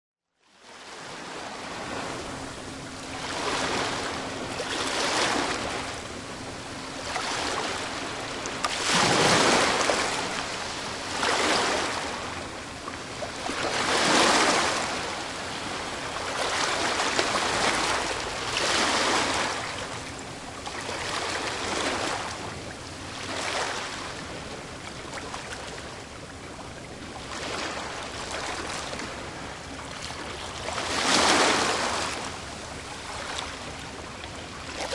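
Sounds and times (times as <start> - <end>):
ocean waves breaking on beach: 0.6 - 34.9.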